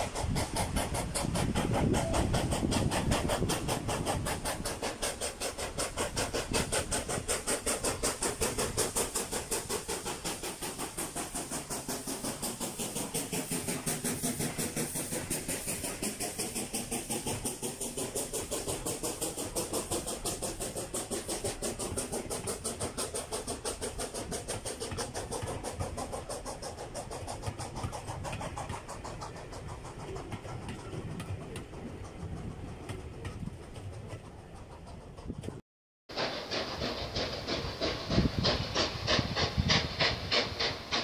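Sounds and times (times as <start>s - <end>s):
coaches rolling on rails: 0.0s - 41.0s
steam locomotive exhaust beats: 0.0s - 41.0s.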